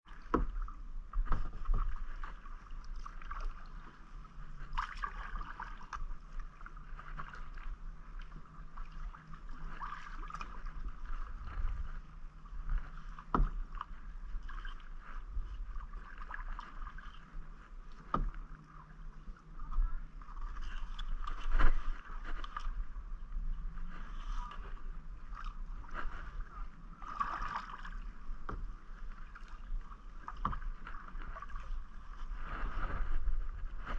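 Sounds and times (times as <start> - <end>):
paddle splashing in water: 0.0 - 22.9, 23.7 - 33.9
steady low rumble: 0.5 - 33.9.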